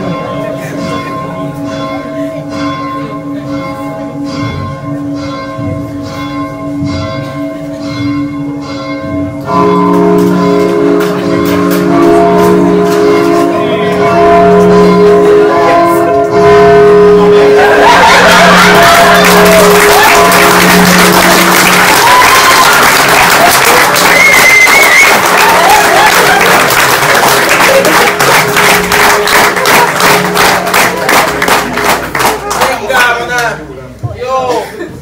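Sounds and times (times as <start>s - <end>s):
church bell ringing: 0.0s - 32.3s.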